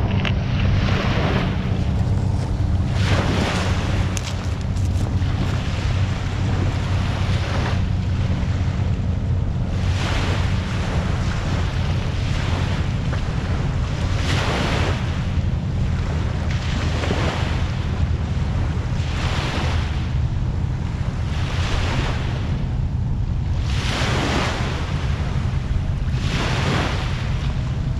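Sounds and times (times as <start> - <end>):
waves washing up on beach: 0.0 - 27.9
wind rumble on microphone: 0.0 - 27.9.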